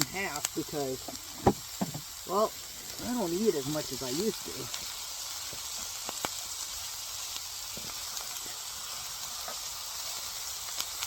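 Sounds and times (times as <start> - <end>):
small pops of frying: 0.0 - 11.0
steak sizzling in a pan: 0.0 - 11.0.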